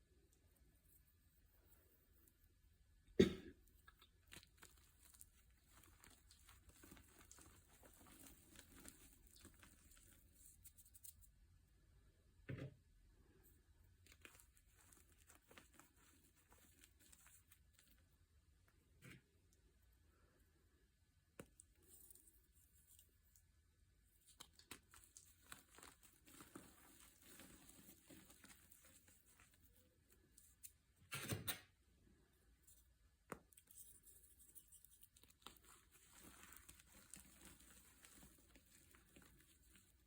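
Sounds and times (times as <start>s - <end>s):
faint crinkling and crackling: 0.0s - 11.4s, 12.5s - 31.2s, 32.0s - 40.0s.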